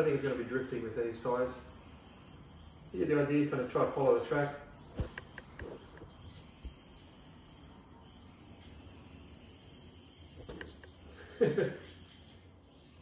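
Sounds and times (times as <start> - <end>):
tiny electric motor whir: 0.0 - 13.0.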